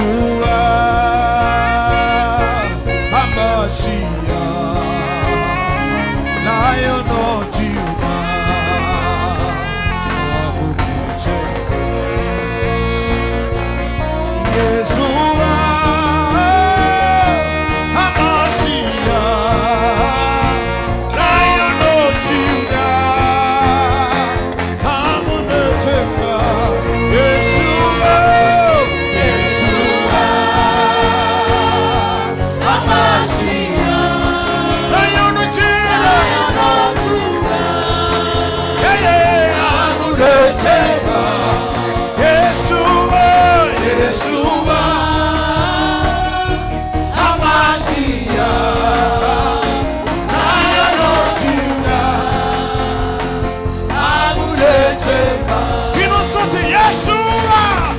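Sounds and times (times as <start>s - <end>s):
band with steady bass: 0.0s - 57.9s
voices singing with vibrato: 0.0s - 57.9s.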